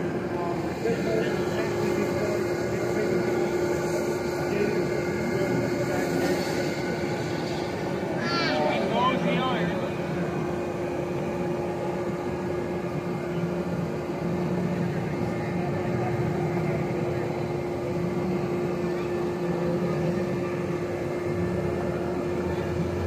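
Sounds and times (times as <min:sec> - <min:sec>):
machine drone with constant hum: 0:00.0 - 0:23.0.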